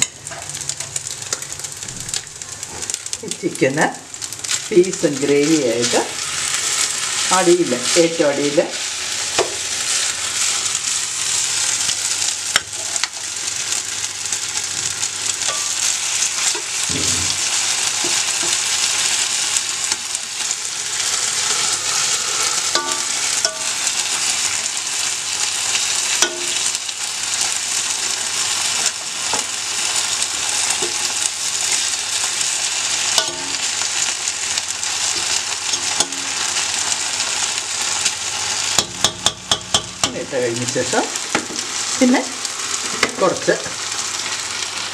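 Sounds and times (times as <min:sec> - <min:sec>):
gravy sizzling in a pot: 0:00.0 - 0:44.9.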